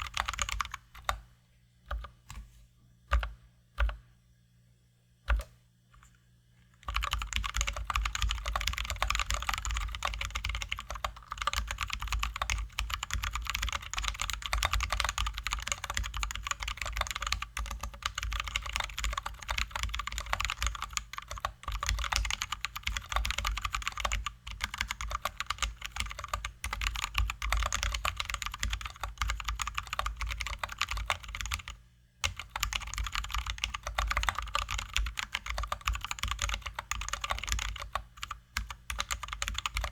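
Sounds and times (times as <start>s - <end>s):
typing on mechanical keyboard: 0.0s - 1.2s, 6.8s - 39.9s.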